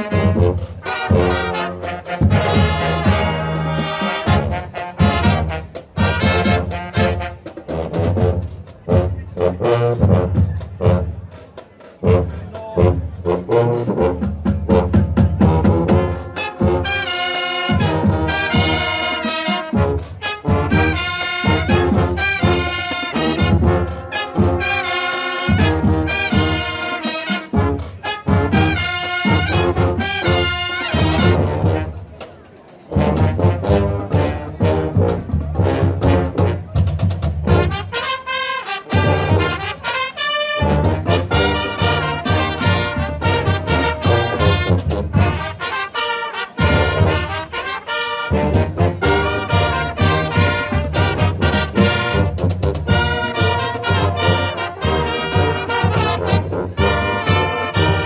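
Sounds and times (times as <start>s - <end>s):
drum beats: 0.0s - 58.0s
low brass playing tune: 0.0s - 58.0s
trumpets and trombones: 0.0s - 58.0s.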